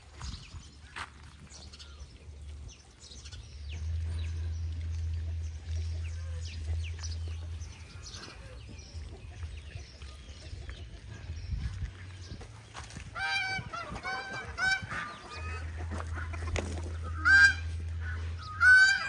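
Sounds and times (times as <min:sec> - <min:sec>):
low rumble: 0:00.0 - 0:19.0
piglets grunting and snuffling: 0:01.4 - 0:19.0.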